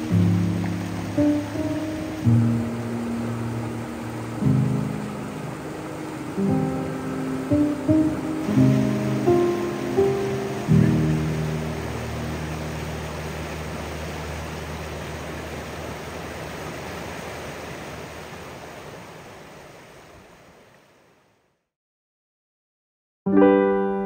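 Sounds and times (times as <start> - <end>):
water rushing over boulders: 0.0 - 21.2.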